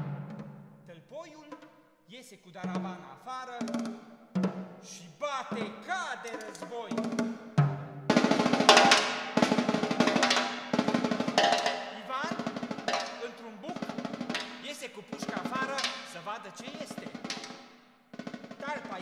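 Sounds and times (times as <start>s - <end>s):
fast snare drum rolls: 0.0s - 0.6s, 2.6s - 19.0s.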